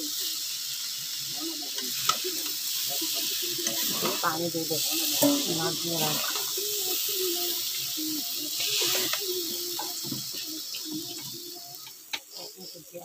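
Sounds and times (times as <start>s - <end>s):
noodles sizzling in a pan: 0.0s - 13.0s.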